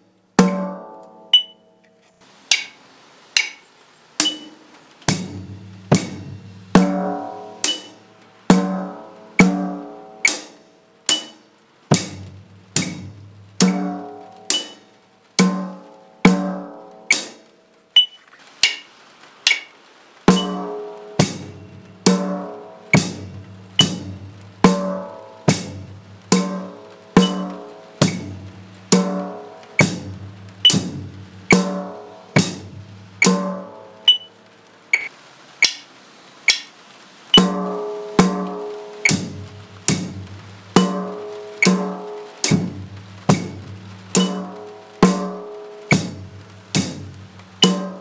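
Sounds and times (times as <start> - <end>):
snare and bass drum beat: 0.4 - 0.8, 4.2 - 17.4, 18.0 - 18.9, 20.3 - 34.3, 37.3 - 48.0.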